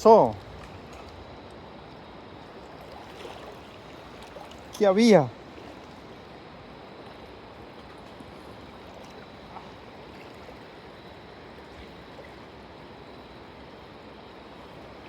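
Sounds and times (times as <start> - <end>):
river water rushing: 0.0 - 12.1.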